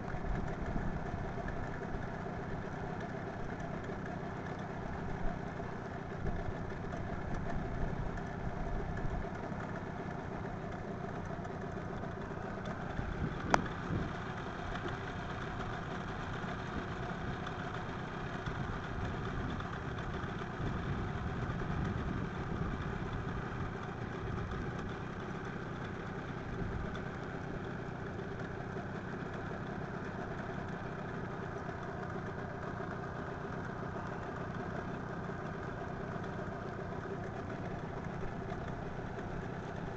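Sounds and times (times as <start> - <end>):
engine-like drone: 0.0 - 39.9.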